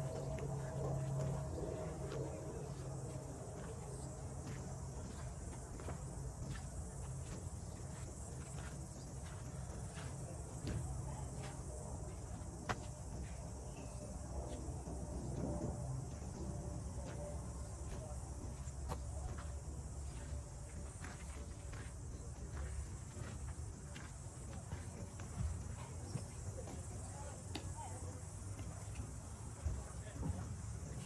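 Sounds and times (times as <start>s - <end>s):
high insect-like hiss: 0.0s - 31.0s.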